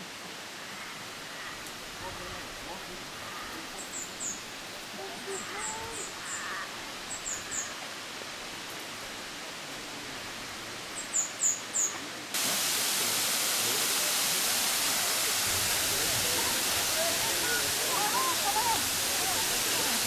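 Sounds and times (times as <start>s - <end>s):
waterfall rushing: 0.0s - 11.0s, 12.1s - 20.0s
soft forest hiss: 0.0s - 20.0s.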